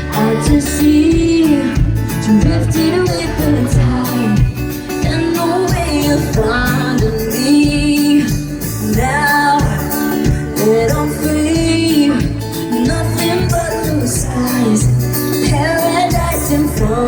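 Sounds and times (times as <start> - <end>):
band with steady drum beat: 0.0 - 17.0
woman singing: 0.0 - 17.0.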